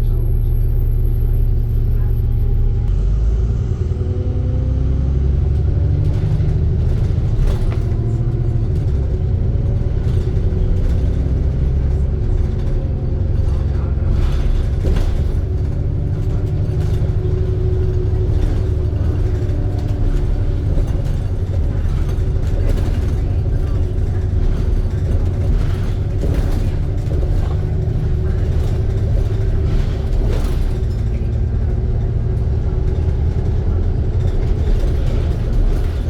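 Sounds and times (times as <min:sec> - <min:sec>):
bus engine and road rumble: 0:00.0 - 0:36.0
sharp knocks and rattles: 0:06.0 - 0:36.0.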